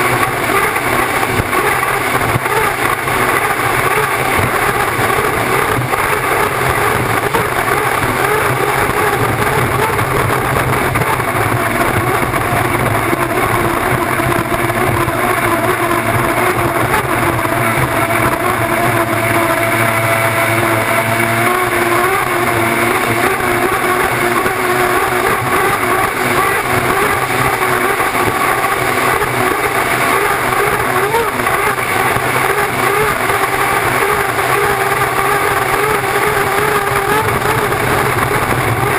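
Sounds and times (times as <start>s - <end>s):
rushing wind and water: 0.0s - 38.9s
turbine engine at racing speed: 0.0s - 38.9s.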